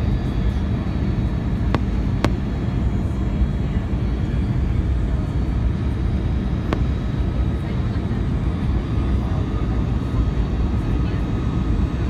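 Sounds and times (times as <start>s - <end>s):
aircraft engines rumbling in cabin: 0.0s - 12.0s.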